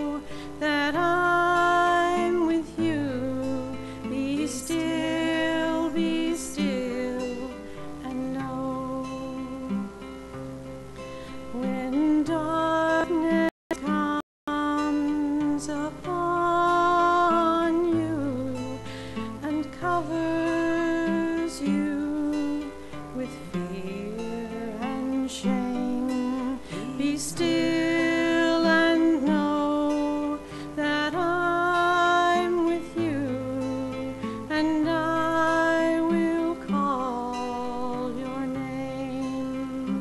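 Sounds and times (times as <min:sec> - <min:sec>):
woman singing: 0:00.0 - 0:10.1, 0:11.4 - 0:40.0
acoustic guitar strumming: 0:00.0 - 0:40.0.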